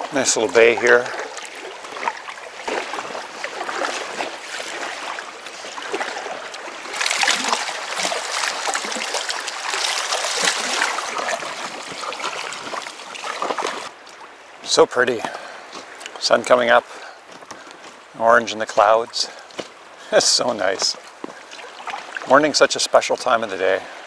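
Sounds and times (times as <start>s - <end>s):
paddle splashing water: 0.0s - 24.0s
water lapping at hull: 0.0s - 24.0s.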